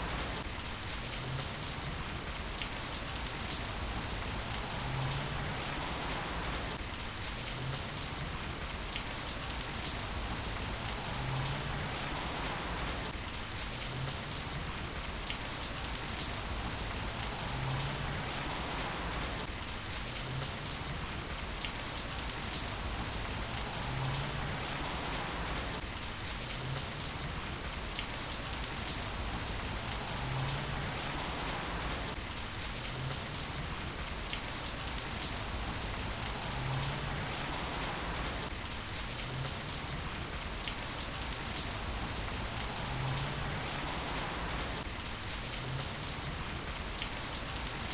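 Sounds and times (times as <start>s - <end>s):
heavy rain on hard surfaces: 0.0s - 47.9s.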